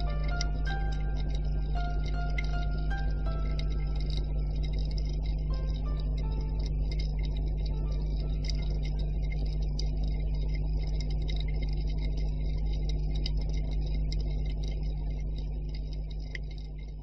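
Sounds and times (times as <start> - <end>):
low underwater rumble: 0.0 - 17.0
sharp crackling clicks: 0.0 - 17.0.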